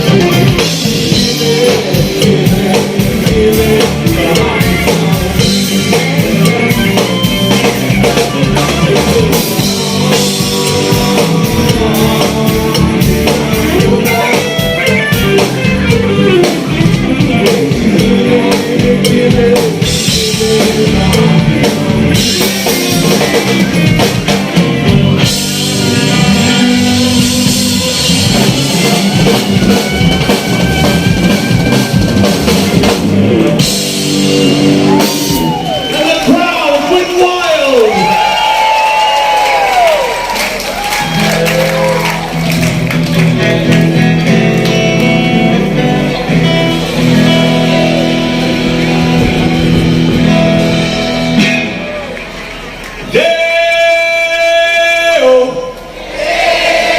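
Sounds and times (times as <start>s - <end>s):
live rock band playing: 0.0s - 55.4s.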